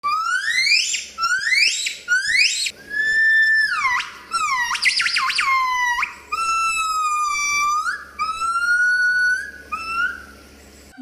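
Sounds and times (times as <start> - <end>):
gibbon whooping calls: 0.0 - 10.4.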